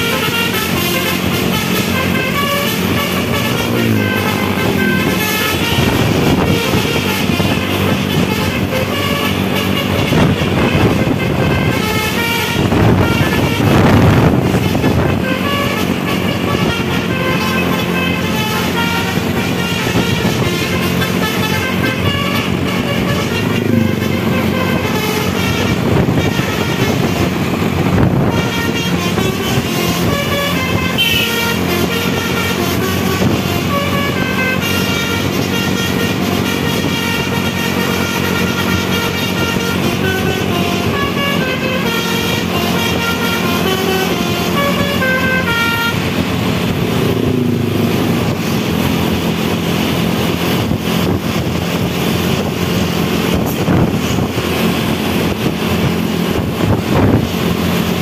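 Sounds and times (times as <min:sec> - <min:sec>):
bus engine drone: 0:00.0 - 0:58.0
musical bus horn tune: 0:00.0 - 0:58.0.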